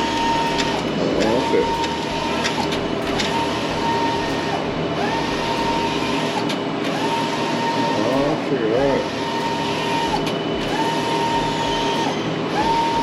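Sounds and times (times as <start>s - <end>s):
printer motor whine: 0.0s - 13.0s
steady low hum: 0.0s - 13.0s.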